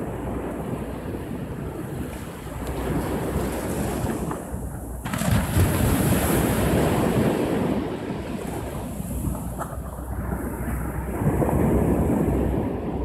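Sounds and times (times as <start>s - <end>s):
small waves washing up a beach: 0.0s - 13.0s.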